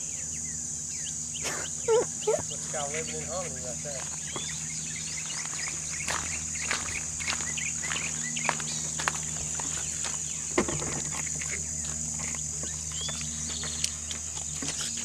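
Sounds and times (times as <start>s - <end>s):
insects singing: 0.0s - 15.0s
footsteps on gravel and grass: 2.4s - 15.0s.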